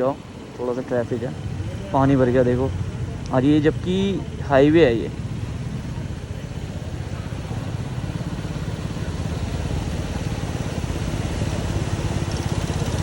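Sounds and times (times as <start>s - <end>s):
road and wind noise: 0.0s - 13.0s
motorcycle engine running: 0.3s - 13.0s.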